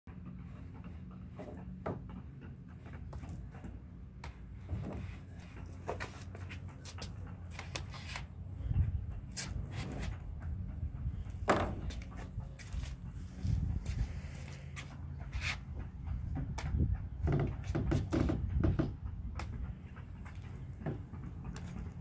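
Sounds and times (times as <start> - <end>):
steady low rumble: 0.1 - 22.0.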